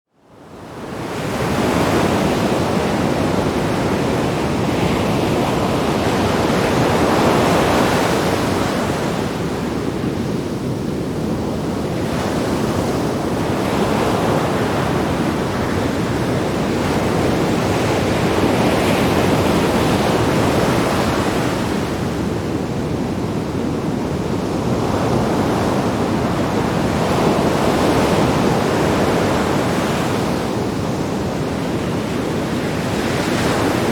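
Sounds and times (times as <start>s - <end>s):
wind on microphone: 0.3s - 33.9s.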